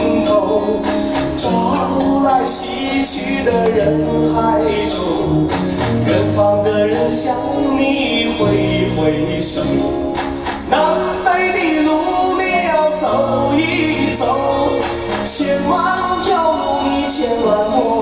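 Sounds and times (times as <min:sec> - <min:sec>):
bass line: 0:00.0 - 0:18.0
person singing: 0:00.0 - 0:18.0.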